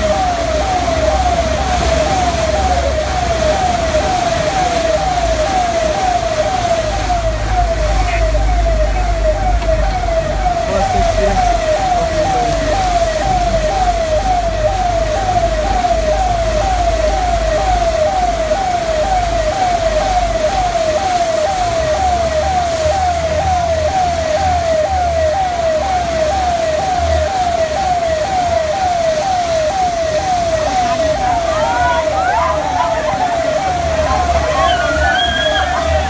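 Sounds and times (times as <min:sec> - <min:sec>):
emergency vehicle siren wailing: 0:00.0 - 0:36.0.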